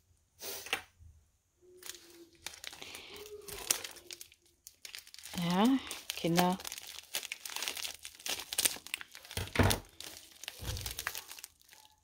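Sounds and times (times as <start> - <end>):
bubble-wrap crinkling: 1.6 - 12.0.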